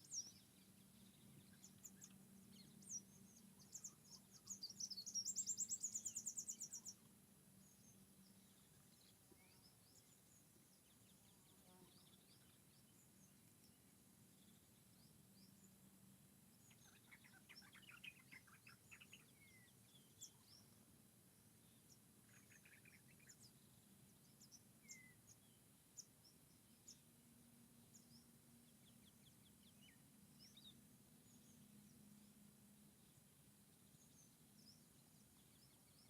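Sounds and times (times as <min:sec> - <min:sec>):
faint low hum: 0:00.0 - 0:36.0
small birds chirping: 0:00.0 - 0:36.0.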